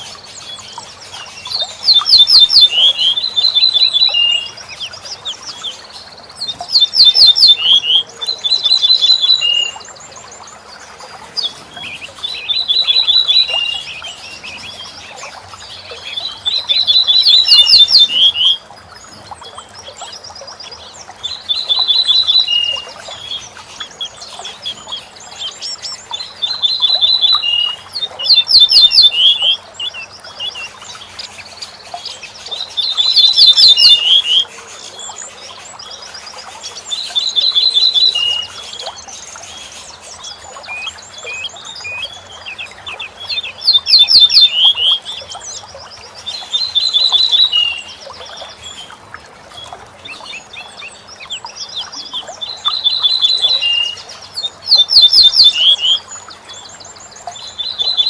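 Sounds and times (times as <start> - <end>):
bunting singing: 0.0 - 10.5, 11.2 - 49.0, 49.6 - 58.0.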